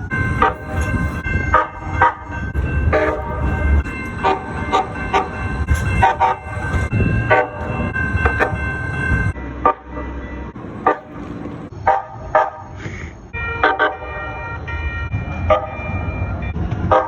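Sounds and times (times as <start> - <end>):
train horn toots: 0.0 - 12.8, 13.4 - 14.5
train rumbling: 0.0 - 14.1.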